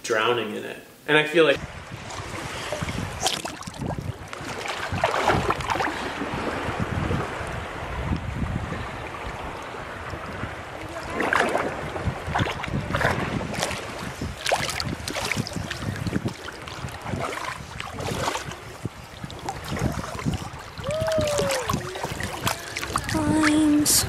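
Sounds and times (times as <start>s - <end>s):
seawater sloshing and splashing: 1.6s - 24.0s
wind rumbling on microphone: 1.6s - 24.0s.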